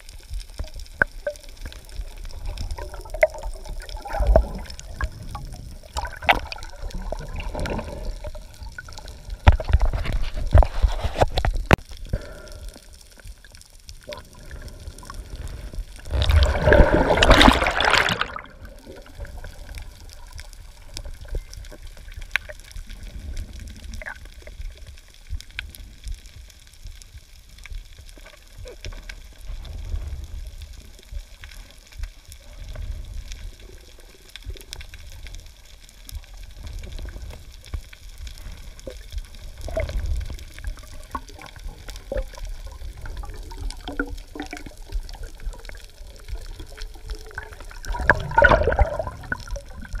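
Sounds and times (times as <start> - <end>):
water splashing and sloshing: 0.0 - 25.8, 28.2 - 50.0
muffled underwater wash: 0.0 - 50.0.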